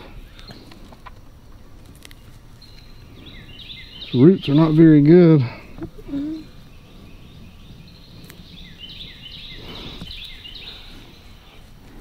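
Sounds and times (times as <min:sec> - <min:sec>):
soft rustle: 0:00.0 - 0:03.3, 0:05.6 - 0:12.0
birds chirping: 0:00.0 - 0:12.0.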